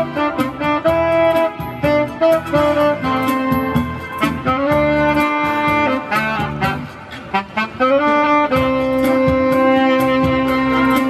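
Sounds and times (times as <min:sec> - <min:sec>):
band accompaniment with steady beat: 0:00.0 - 0:07.8, 0:08.4 - 0:11.0
tenor saxophone melody: 0:00.0 - 0:11.0.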